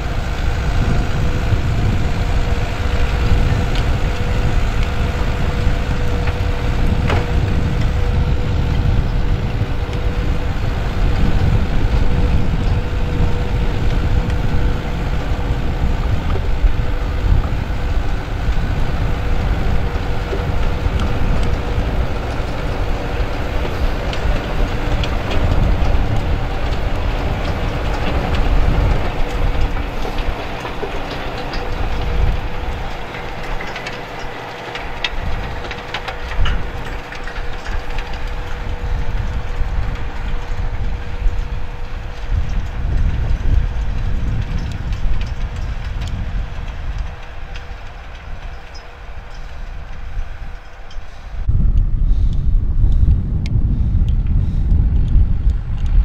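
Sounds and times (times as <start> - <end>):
rotary tiller churning soil: 0.0 - 51.5
tractor engine under load: 0.0 - 51.8.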